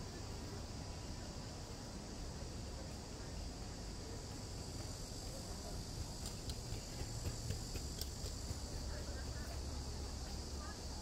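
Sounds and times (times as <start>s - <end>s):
low street rumble: 0.0s - 11.0s.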